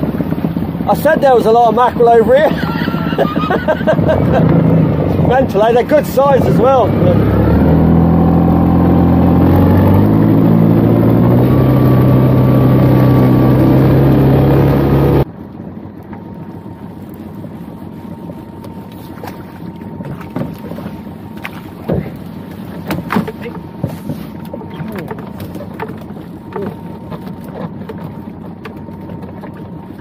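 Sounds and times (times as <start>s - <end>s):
water noise: 0.0s - 30.0s.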